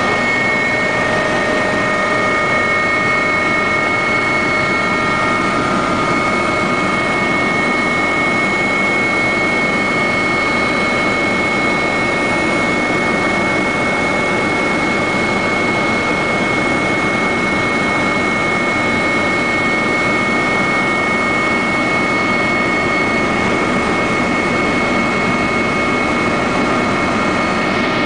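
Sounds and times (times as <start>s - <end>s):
helicopter engine and rotor drone: 0.0s - 28.0s
steady high whine: 0.0s - 28.0s.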